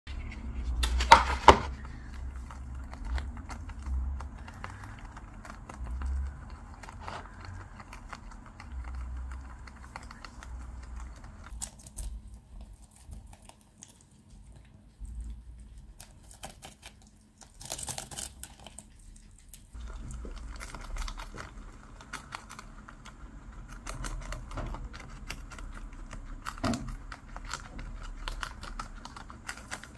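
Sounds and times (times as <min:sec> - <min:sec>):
guinea pigs chewing: 0:00.1 - 0:29.9.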